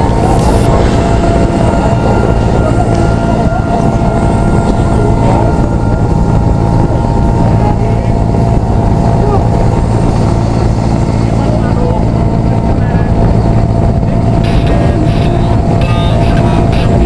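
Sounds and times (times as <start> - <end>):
helicopter engine and rotor drone: 0.0 - 17.0
thin even whine: 0.0 - 17.0.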